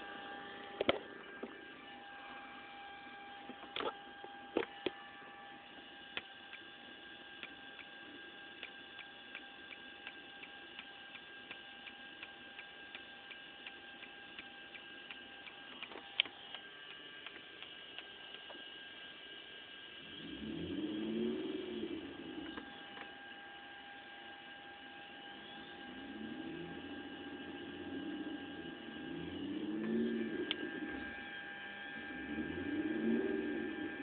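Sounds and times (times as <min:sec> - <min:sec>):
high-pitched electrical whine: 0:00.0 - 0:34.0.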